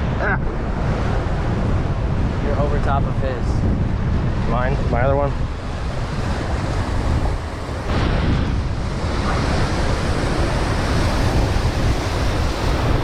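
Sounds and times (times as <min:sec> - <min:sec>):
steady surf: 0:00.0 - 0:13.0
wind rumbling on microphone: 0:00.0 - 0:13.0.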